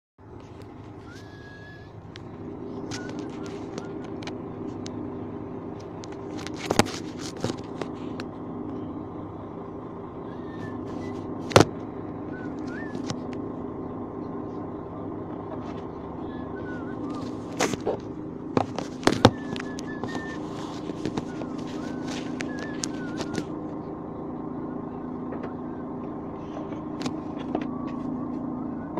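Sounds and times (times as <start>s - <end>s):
steady low hum: 0.2s - 28.9s
birds chirping: 0.3s - 6.3s, 7.0s - 28.9s.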